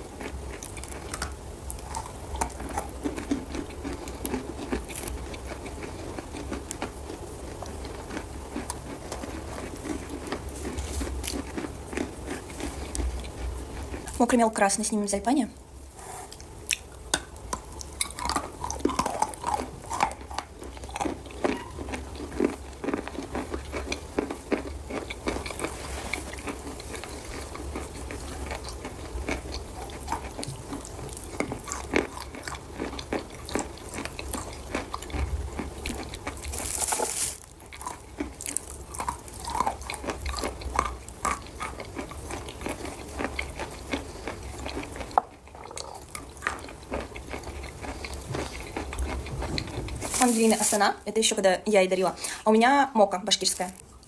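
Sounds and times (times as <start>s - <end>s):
crunching and chewing chalk: 0.0s - 14.2s, 16.0s - 50.8s.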